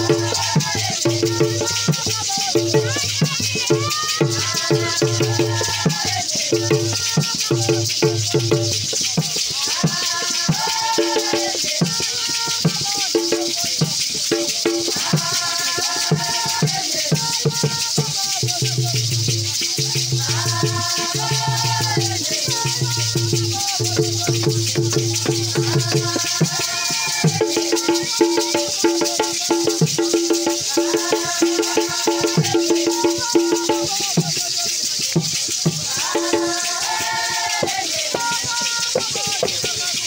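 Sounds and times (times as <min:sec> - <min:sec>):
hand drum beats: 0:00.0 - 0:40.0
shaken rattles hissing: 0:00.0 - 0:40.0
voices singing together: 0:00.0 - 0:40.0.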